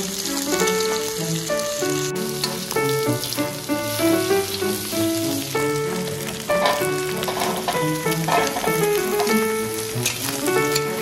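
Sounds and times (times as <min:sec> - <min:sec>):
background music: 0:00.0 - 0:11.0
food sizzling in a pan: 0:00.0 - 0:11.0.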